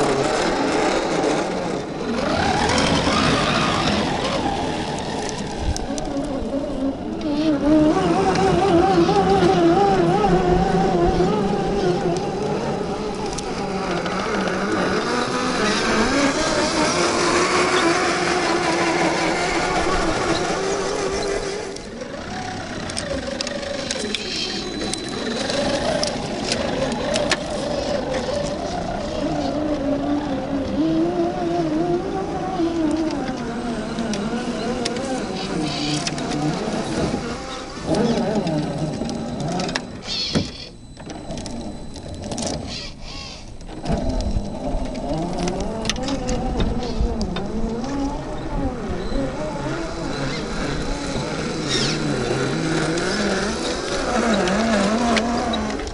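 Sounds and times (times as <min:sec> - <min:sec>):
rc car electric motor whine: 0:00.0 - 0:55.9.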